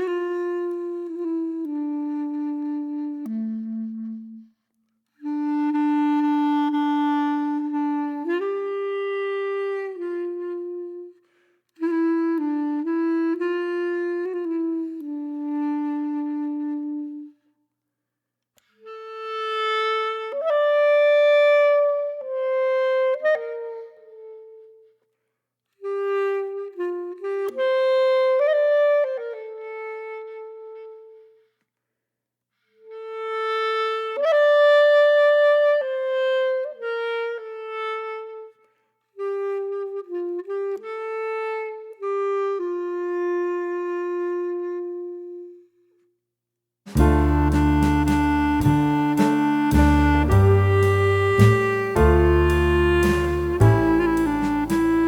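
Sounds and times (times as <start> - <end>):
slow woodwind melody: 0.0 - 17.4, 18.8 - 25.0, 25.8 - 31.4, 32.9 - 45.8, 46.9 - 55.0.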